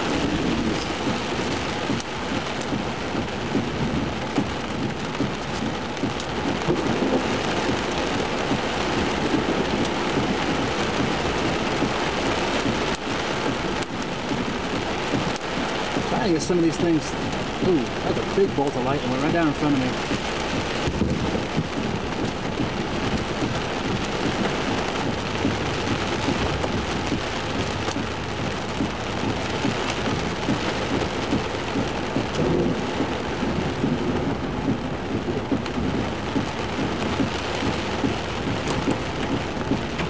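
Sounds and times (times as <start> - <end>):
hailstone ticks: 0.0 - 40.0
heavy rain drumming on truck: 0.0 - 40.0
thunder rumbling: 0.0 - 40.0.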